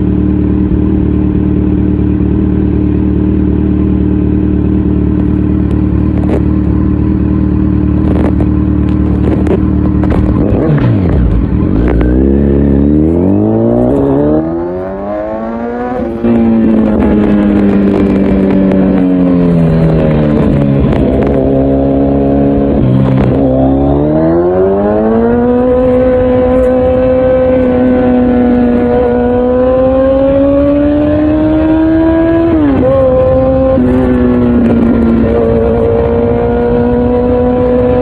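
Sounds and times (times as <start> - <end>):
motorcycle engine: 0.0 - 38.0.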